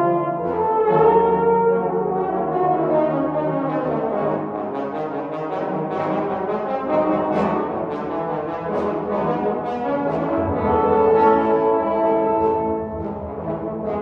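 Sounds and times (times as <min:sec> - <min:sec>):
bass trombone solo: 0:00.0 - 0:14.0
trombone ensemble: 0:00.0 - 0:14.0.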